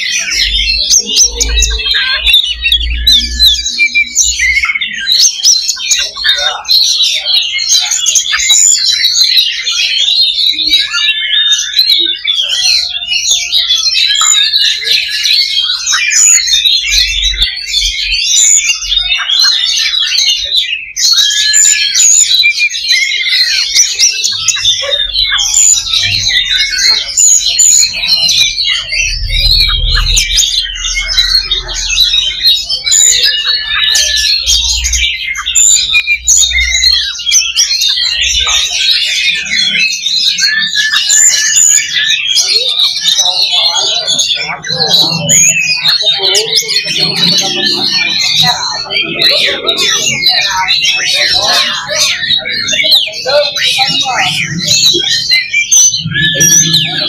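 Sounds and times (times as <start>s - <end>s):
bird singing fast chirps and trills: 0.0s - 57.0s.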